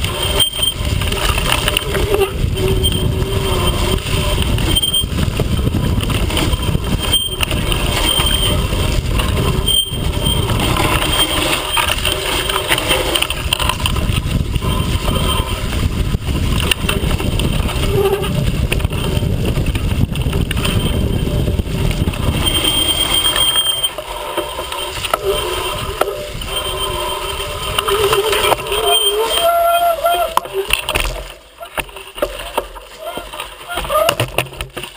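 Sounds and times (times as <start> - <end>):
bike rattling over bumps: 0.0 - 34.9
wind rumble on microphone: 0.0 - 34.9.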